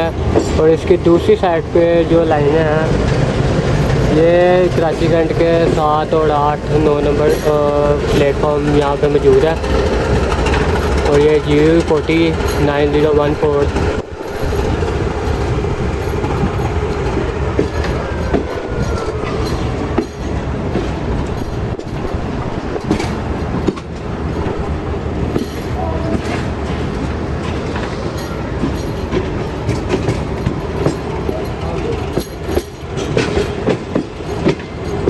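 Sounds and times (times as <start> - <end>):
train rumbling on track: 0.0 - 35.0
wheels clacking over rail joints: 0.0 - 35.0.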